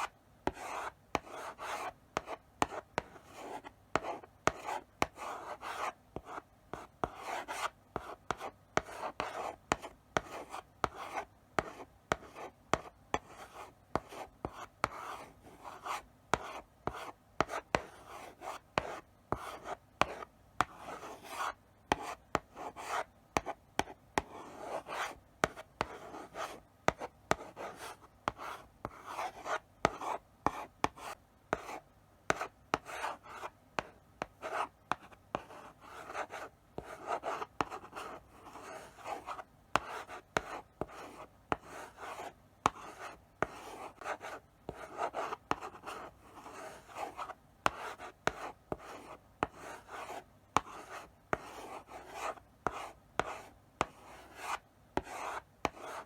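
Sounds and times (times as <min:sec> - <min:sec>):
chalk scratching on blackboard: 0:00.0 - 0:56.0
chalk tapping on board: 0:00.5 - 0:11.0, 0:11.6 - 0:13.4, 0:15.8 - 0:31.7, 0:32.3 - 0:56.0.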